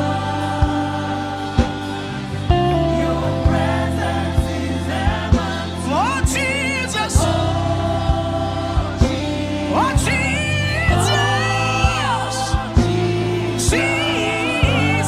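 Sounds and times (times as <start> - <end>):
slow gospel music: 0.0 - 15.0.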